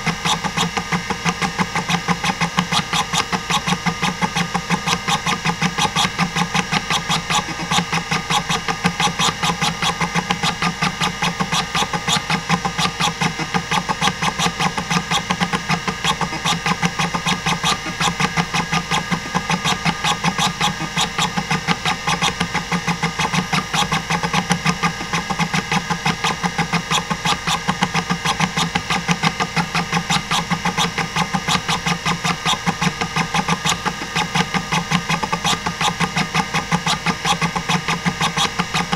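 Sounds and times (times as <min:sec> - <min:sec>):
hard drive platters humming: 0:00.0 - 0:38.9
hard drive seek clicks: 0:00.0 - 0:38.9.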